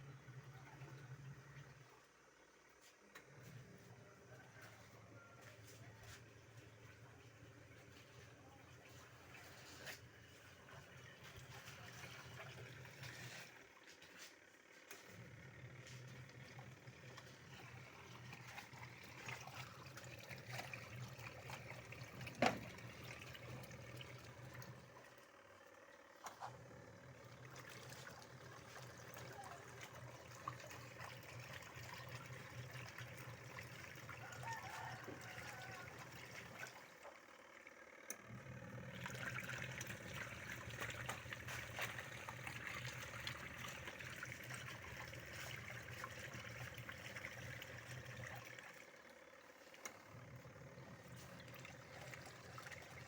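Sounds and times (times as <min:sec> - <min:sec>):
low steady hum: 0:00.0 - 0:14.2, 0:14.9 - 0:37.1, 0:38.3 - 0:48.8, 0:49.6 - 0:53.0
water trickling into washing machine: 0:00.0 - 0:53.0.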